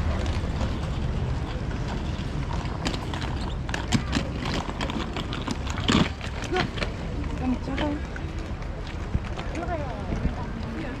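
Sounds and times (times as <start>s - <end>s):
low street rumble: 0.0s - 11.0s.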